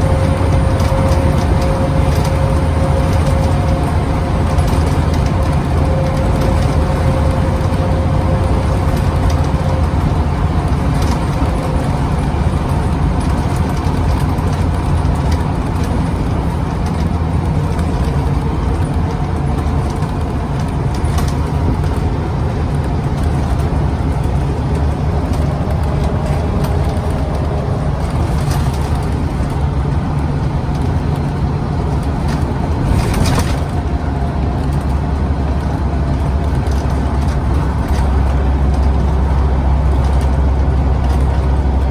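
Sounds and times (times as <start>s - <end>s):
bodywork rattles and knocks: 0.0s - 41.9s
bus diesel engine running: 0.0s - 41.9s
road noise: 0.0s - 41.9s.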